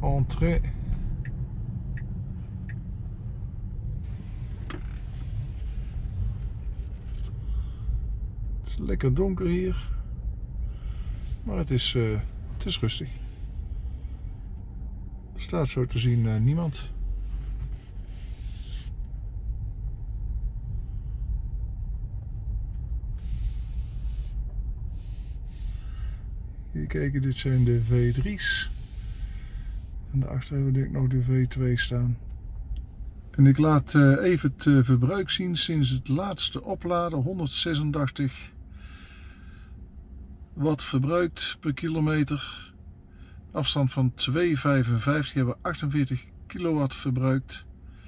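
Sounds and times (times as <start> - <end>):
road and tyre noise: 0.0 - 48.0.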